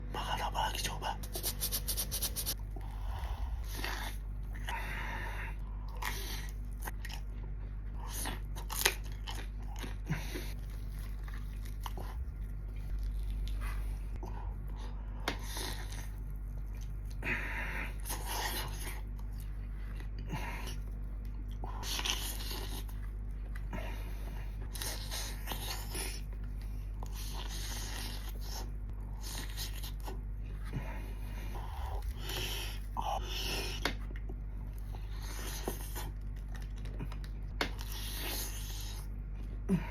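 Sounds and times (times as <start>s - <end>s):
steady low hum: 0.0s - 39.9s
crunchy chewing: 1.2s - 39.7s.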